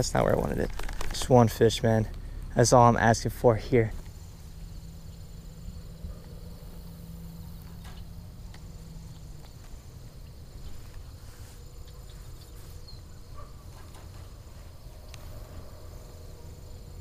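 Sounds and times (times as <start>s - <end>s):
crickets trilling: 0.0s - 17.0s
low steady hum: 0.0s - 17.0s.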